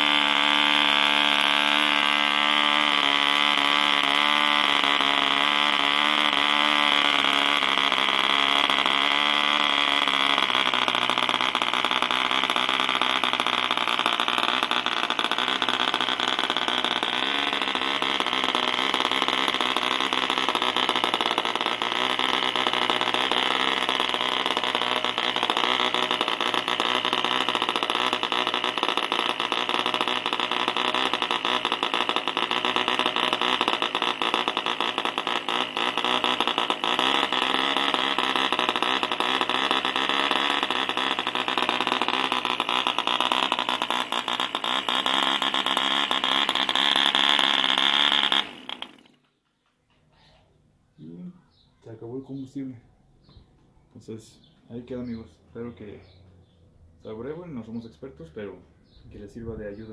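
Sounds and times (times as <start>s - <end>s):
model diesel engine running: 0.0s - 49.4s.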